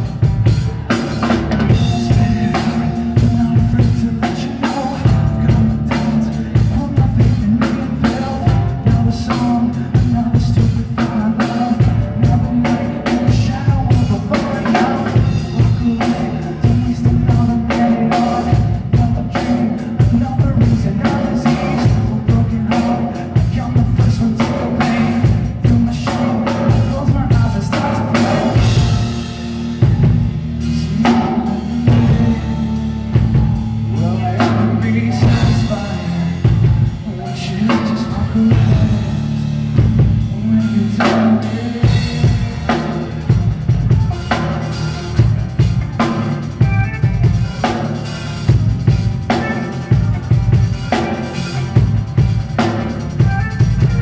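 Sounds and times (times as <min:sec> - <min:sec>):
man singing: 0:00.0 - 0:54.0
rock band playing: 0:00.0 - 0:54.0.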